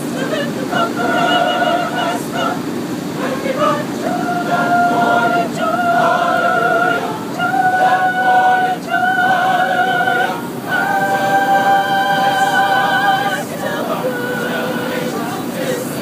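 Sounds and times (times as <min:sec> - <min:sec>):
choir singing a cappella: 0:00.0 - 0:16.0.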